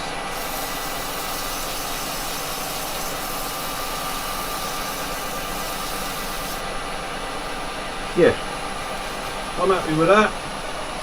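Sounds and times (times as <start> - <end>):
wood lathe whirring: 0.0 - 11.0.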